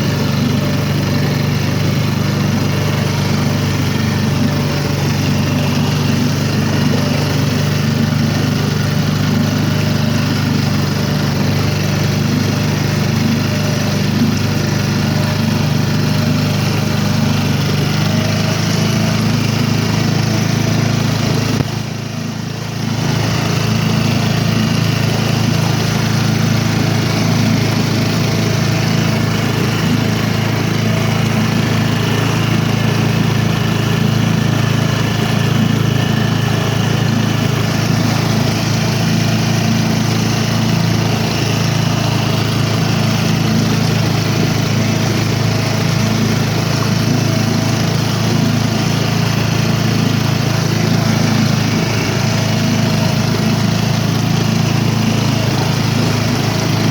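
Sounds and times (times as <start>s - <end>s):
motor humming steadily: 0.0s - 56.9s.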